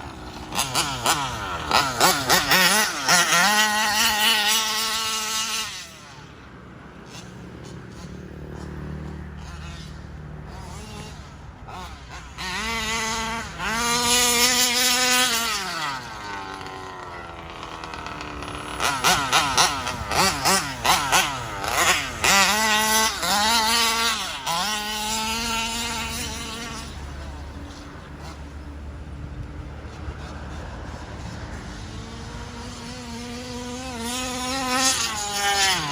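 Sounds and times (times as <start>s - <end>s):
small two-stroke engine revving: 0.0s - 35.9s.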